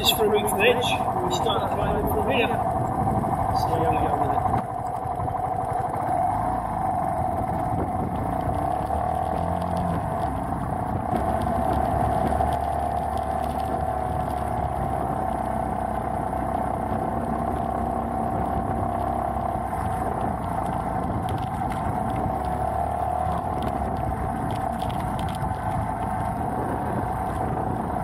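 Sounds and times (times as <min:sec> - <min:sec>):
motorcycle engine running under load: 0:00.0 - 0:28.0.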